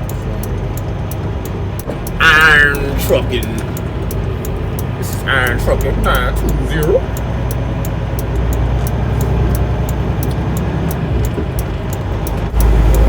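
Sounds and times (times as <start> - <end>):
diesel truck engine rumbling: 0.0 - 13.0
light regular ticking: 0.0 - 13.0.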